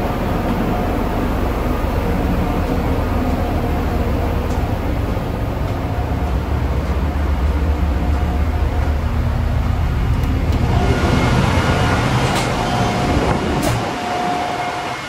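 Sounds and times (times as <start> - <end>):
engine-room machinery rumble: 0.0 - 15.0.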